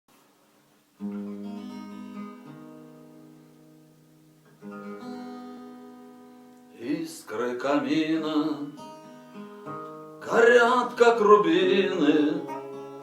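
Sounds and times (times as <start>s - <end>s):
acoustic guitar chord strummed: 1.0s - 13.0s.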